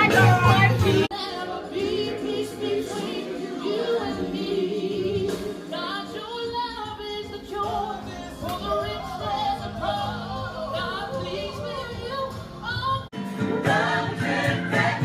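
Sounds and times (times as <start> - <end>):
voices singing gospel: 0.0 - 15.0.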